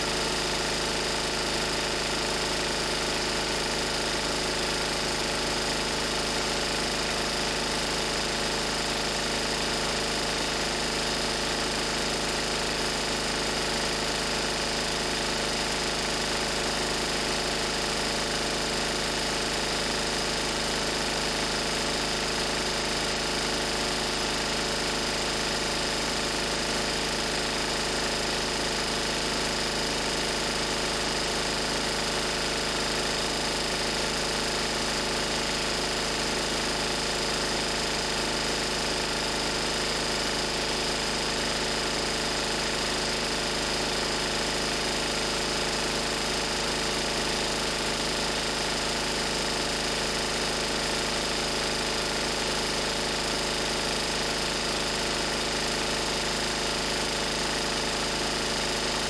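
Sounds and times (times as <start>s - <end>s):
diesel generator running: 0.0s - 59.0s.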